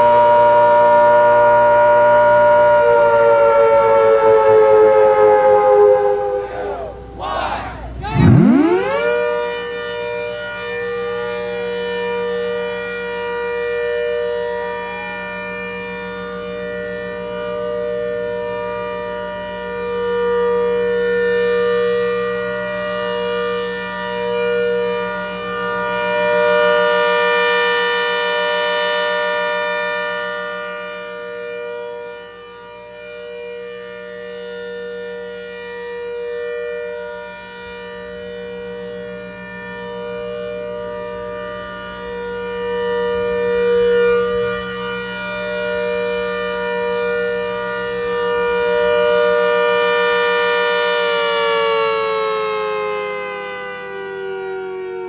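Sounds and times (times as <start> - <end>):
outdoor warning siren: 0.0 - 55.0.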